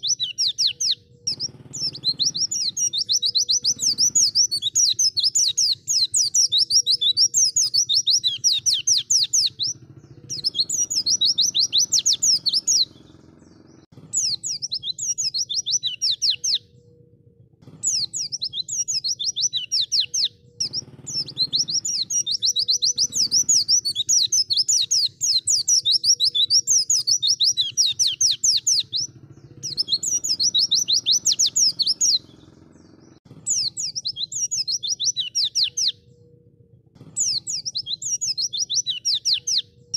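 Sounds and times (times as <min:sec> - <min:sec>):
bird singing chattering trills: 0:00.0 - 0:39.9.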